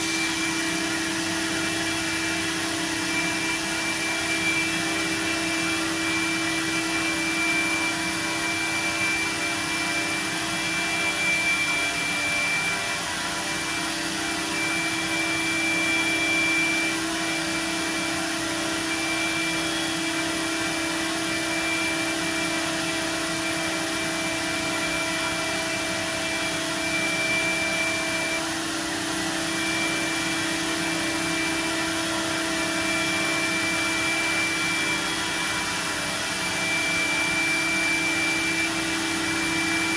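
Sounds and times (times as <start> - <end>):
high whine: 0.0 - 39.9
router whirring hiss: 0.0 - 39.9.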